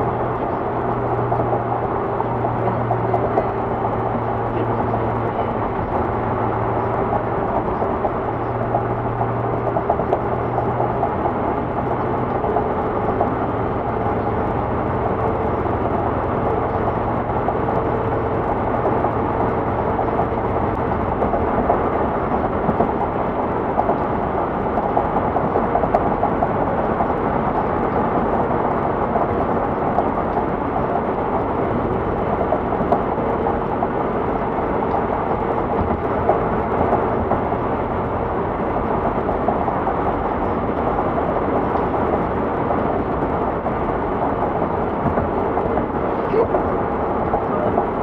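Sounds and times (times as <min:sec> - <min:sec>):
car road noise at highway speed: 0:00.0 - 0:48.0.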